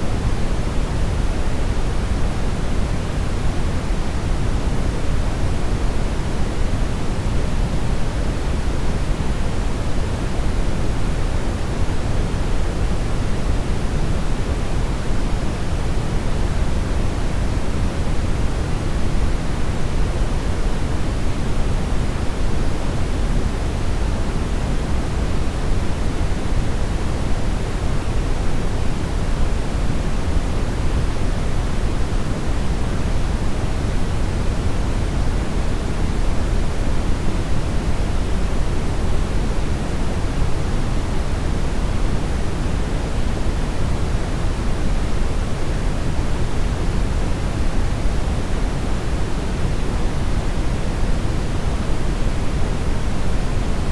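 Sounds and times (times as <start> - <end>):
brown noise rumbling hiss: 0.0 - 53.9.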